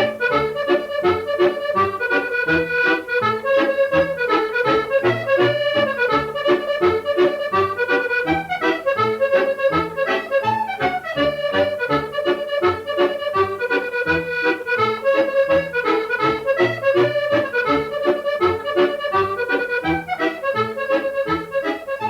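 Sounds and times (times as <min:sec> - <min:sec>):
accordion playing lively tune: 0:00.0 - 0:22.0.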